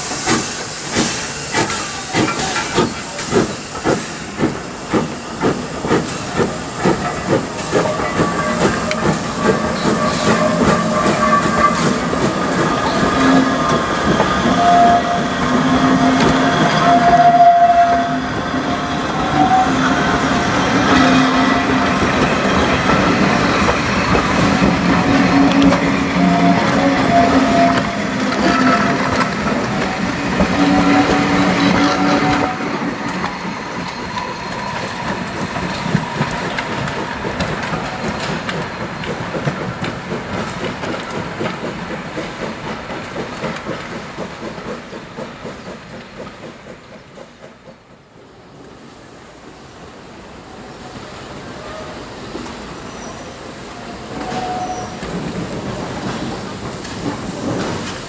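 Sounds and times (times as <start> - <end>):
train wheels clacking over rail joints: 0.0 - 48.0, 54.1 - 58.0
steam train approaching: 0.0 - 58.0.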